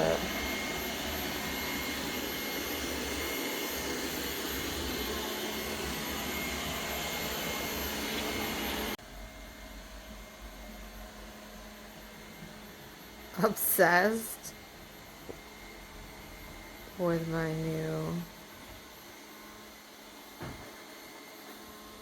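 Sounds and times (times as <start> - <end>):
robot vacuum running: 0.0 - 22.0.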